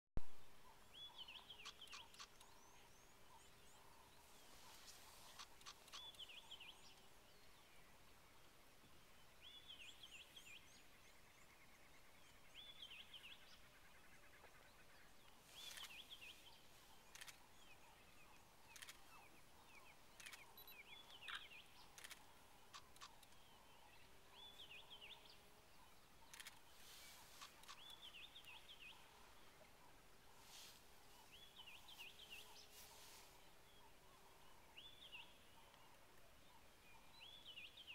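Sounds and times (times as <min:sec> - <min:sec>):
bush background: 0:00.2 - 0:37.9
faint bird chirping: 0:00.2 - 0:37.9.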